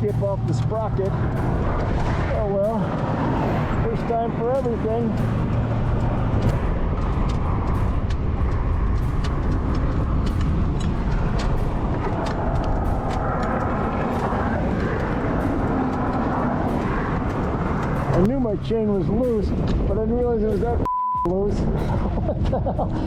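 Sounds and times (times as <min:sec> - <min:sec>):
vehicle passing: 0:00.0 - 0:20.8
rumbling road traffic: 0:00.0 - 0:23.0.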